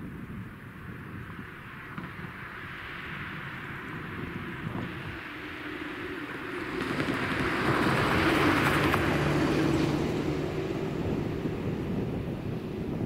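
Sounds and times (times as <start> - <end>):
car passing close by: 2.4 - 13.0.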